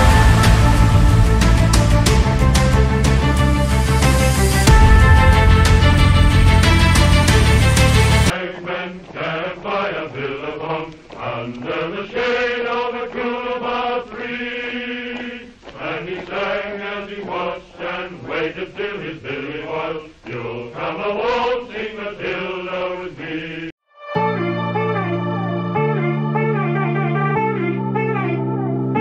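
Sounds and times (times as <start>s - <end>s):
voices chanting: 0.0s - 23.7s.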